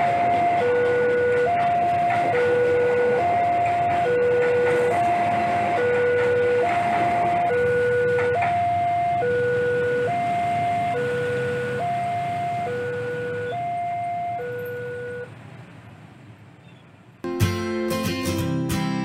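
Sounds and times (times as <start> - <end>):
level crossing two-tone alarm: 0.0 - 15.3
passing train rumble: 0.0 - 17.3.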